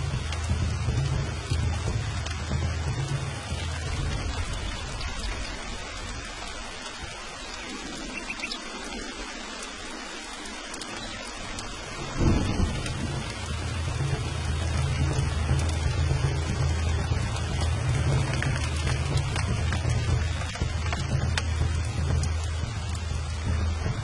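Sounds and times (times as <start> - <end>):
rolling thunder: 0.0 - 9.3, 11.2 - 24.0
thunderclap: 0.0 - 9.3, 11.2 - 24.0
heavy rain: 0.0 - 24.0.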